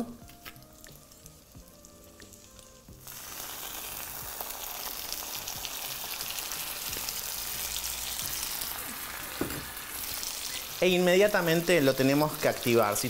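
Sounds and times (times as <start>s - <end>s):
caramel hissing and sizzling in pan: 0.4s - 13.0s.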